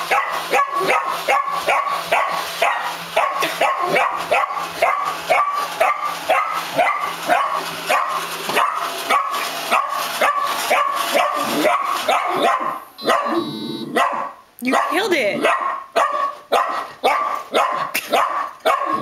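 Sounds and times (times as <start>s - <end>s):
dog barking sharply: 0.1s - 19.0s.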